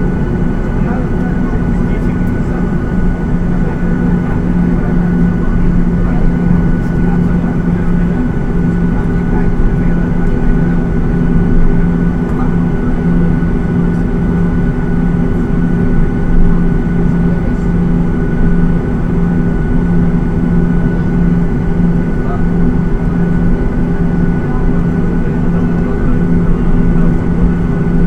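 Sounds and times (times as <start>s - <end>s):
airliner cabin drone: 0.0s - 28.0s.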